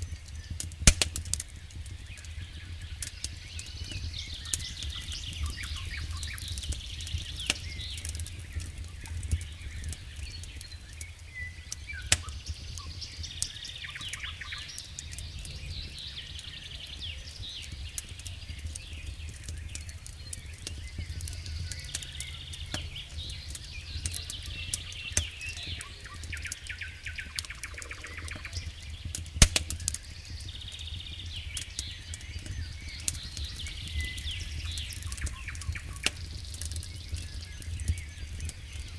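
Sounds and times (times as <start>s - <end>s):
campfire crackling and popping: 0.0s - 38.9s
small birds chirping: 0.0s - 38.9s.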